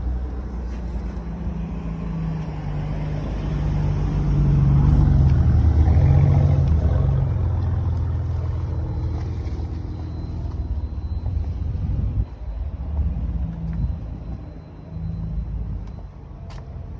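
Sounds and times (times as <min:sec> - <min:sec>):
vehicle engine rumbling: 0:00.0 - 0:16.9.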